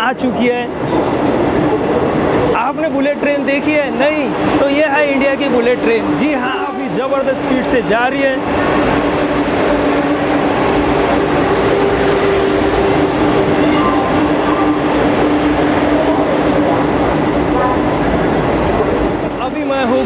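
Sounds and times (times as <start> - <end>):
electric train rumble: 0.6 - 20.0
train whine: 0.6 - 20.0.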